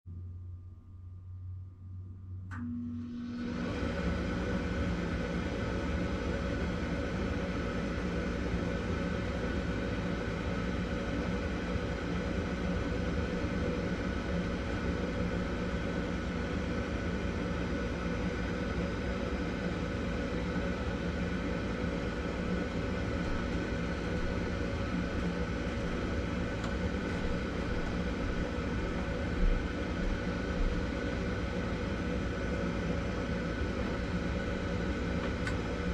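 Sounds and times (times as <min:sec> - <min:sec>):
furnace fan whooshing and humming: 0:00.5 - 0:35.9.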